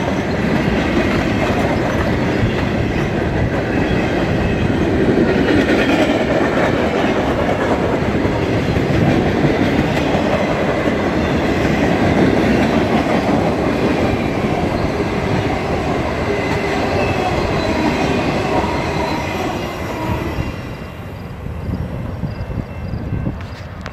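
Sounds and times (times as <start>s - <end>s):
freight train wheels rumbling: 0.0s - 23.9s.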